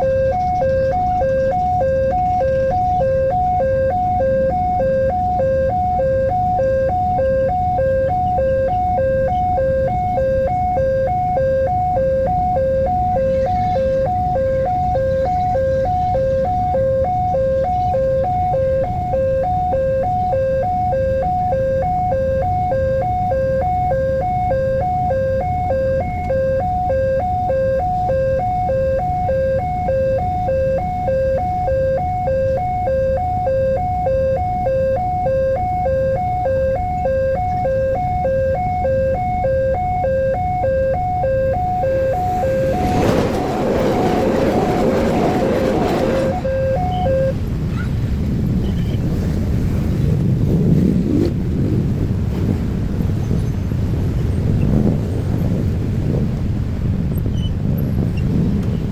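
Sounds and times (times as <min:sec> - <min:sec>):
two-tone crossing alarm bell: 0:00.0 - 0:47.5
low rumble of traffic: 0:00.0 - 0:58.9.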